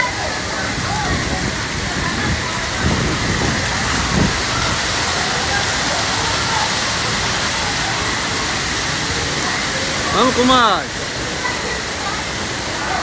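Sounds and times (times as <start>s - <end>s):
faint voices: 0.0s - 13.0s
waterfall rushing: 0.0s - 13.0s.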